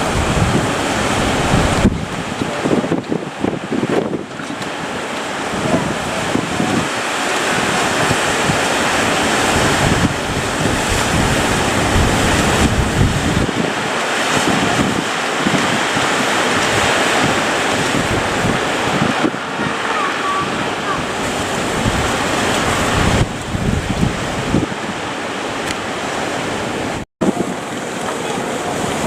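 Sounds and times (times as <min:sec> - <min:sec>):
heavy sea surf breaking: 0:00.0 - 0:29.0
wind buffeting microphone: 0:00.0 - 0:29.0.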